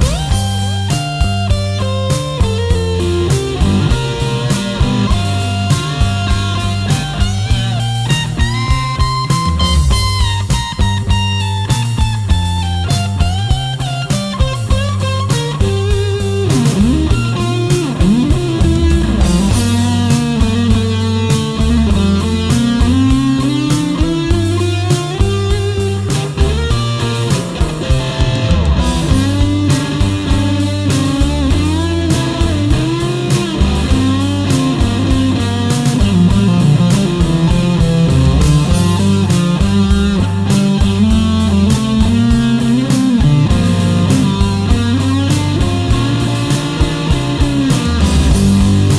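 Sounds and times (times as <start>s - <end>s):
electric guitar lead: 0.0s - 48.9s
rock backing track: 0.0s - 48.9s.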